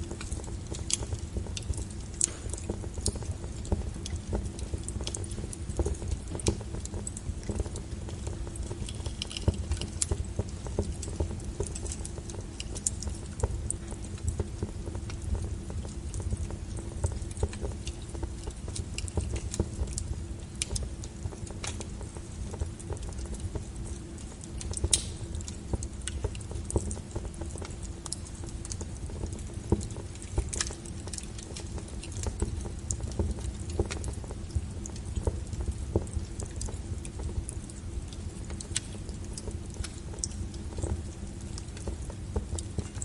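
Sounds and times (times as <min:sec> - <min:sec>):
low rumble of burning logs: 0:00.0 - 0:43.0
wood fire crackling: 0:00.0 - 0:43.0.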